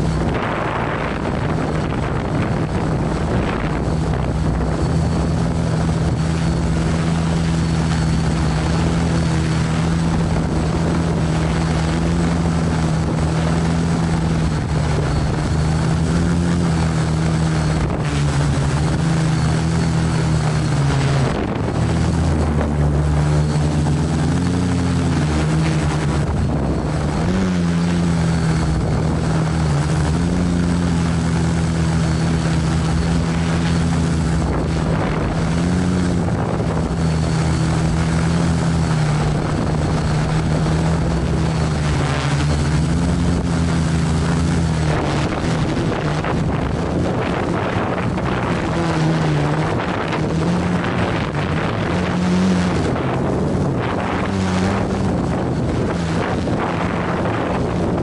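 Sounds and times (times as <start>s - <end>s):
drone propellers humming: 0.0s - 58.0s.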